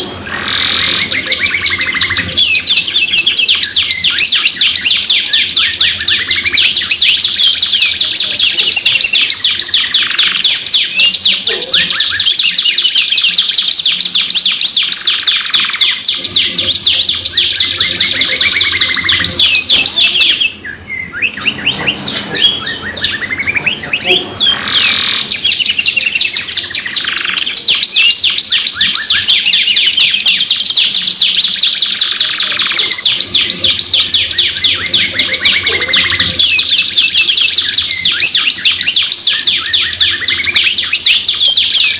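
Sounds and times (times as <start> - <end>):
canaries trilling: 0.0 - 41.9.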